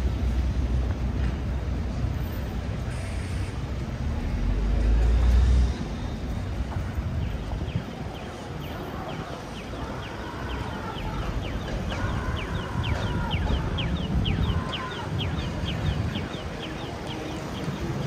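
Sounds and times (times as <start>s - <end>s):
crowd noise: 0.0s - 18.0s
low traffic rumble: 0.0s - 18.0s.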